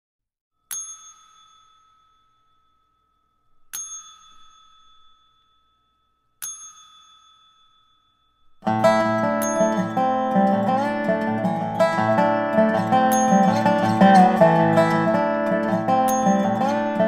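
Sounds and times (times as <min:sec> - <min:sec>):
small bell ringing: 0:00.6 - 0:11.6, 0:12.8 - 0:14.6, 0:15.7 - 0:17.0.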